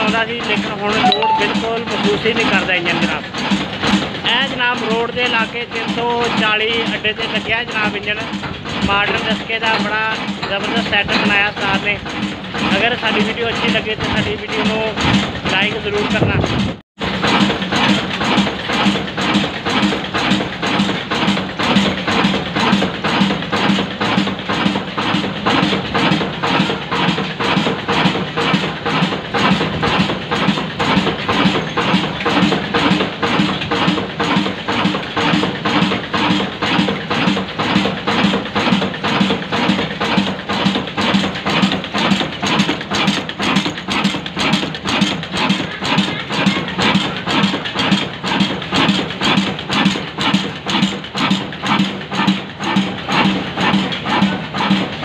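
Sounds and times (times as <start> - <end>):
diesel engine thumping: 5.8 - 55.0.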